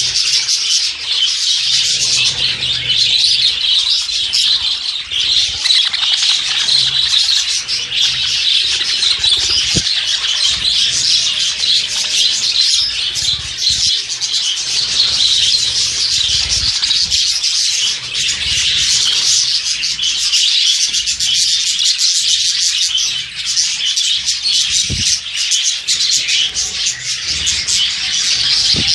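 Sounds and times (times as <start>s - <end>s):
caged birds chirping and chattering: 0.0s - 28.9s.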